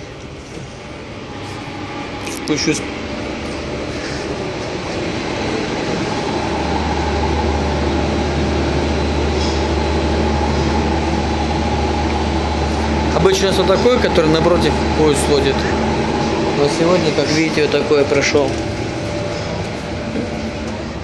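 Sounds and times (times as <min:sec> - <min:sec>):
steady low hum: 0:00.0 - 0:21.0
train rail running noise: 0:00.0 - 0:21.0.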